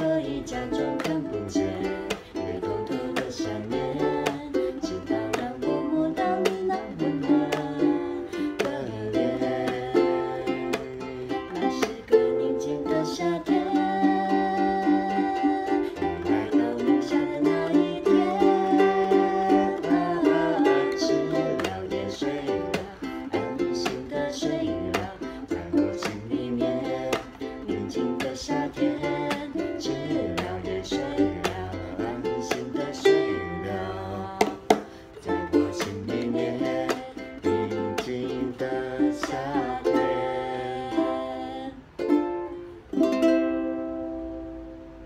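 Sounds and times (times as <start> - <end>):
woman singing: 0.0 - 42.7
ukuleles strumming: 0.0 - 45.0.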